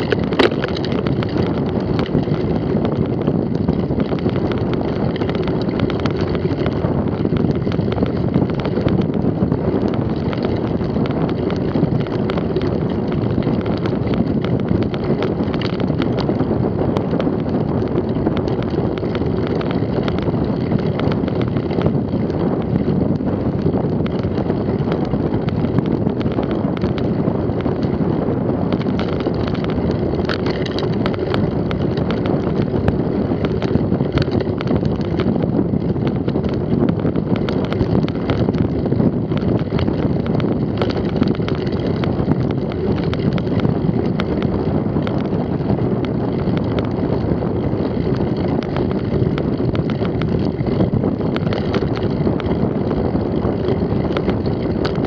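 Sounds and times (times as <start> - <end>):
bike rattling over bumps: 0.0 - 55.0
tyres rolling on dirt track: 0.0 - 55.0
wind rush on microphone: 0.0 - 55.0.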